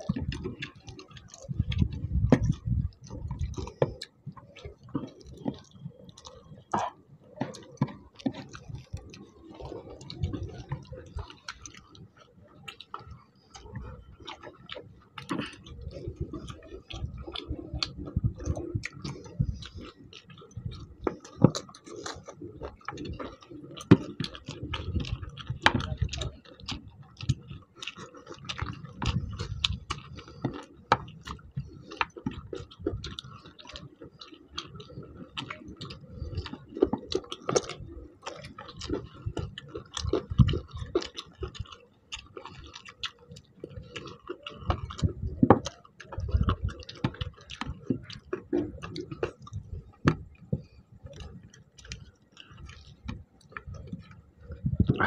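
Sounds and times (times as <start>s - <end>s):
people chewing: 0.0s - 55.0s.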